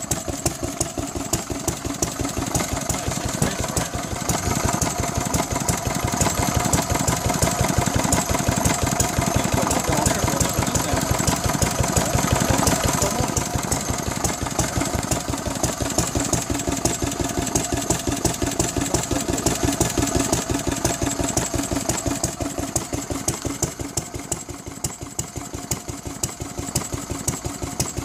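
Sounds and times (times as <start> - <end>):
stationary engine running: 0.0 - 28.0.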